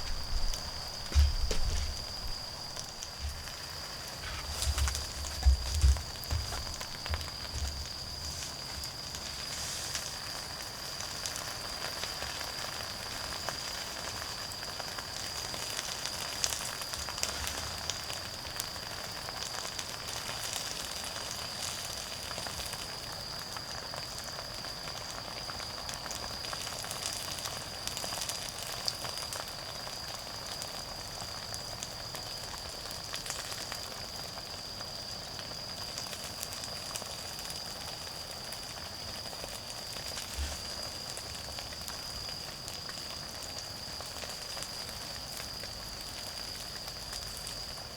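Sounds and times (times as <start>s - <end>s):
insects trilling: 0.0s - 47.9s
wood fire crackling: 0.0s - 47.9s.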